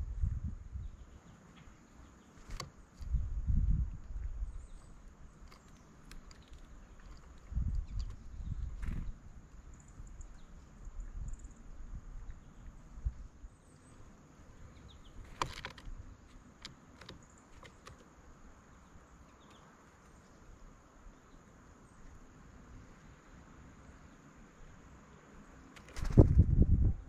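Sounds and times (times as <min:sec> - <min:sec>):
faint steady hiss: 0:00.0 - 0:26.2.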